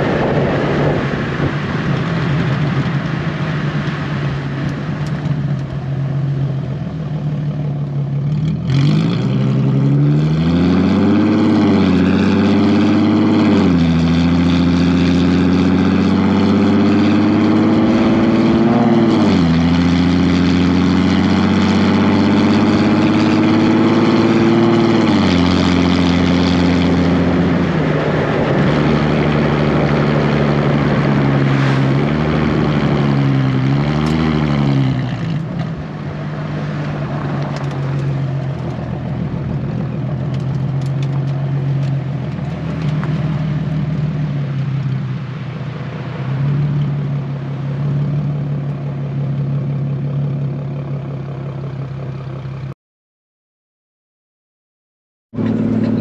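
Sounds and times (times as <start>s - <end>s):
car exhaust revving through gears: 0.0s - 51.8s, 55.3s - 56.0s.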